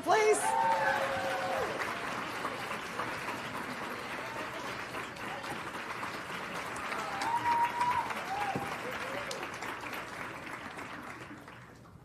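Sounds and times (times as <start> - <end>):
audience applauding: 0.1 - 12.0.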